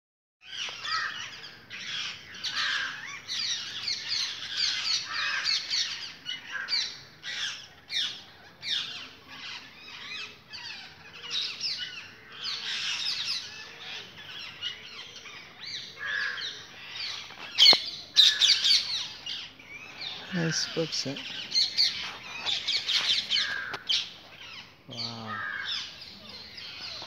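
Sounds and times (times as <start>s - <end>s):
parrots calling: 0.5s - 27.0s.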